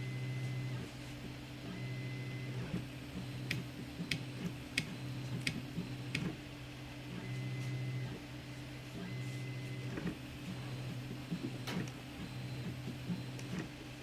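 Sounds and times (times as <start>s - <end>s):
stepper motors humming and whining: 0.0s - 14.0s.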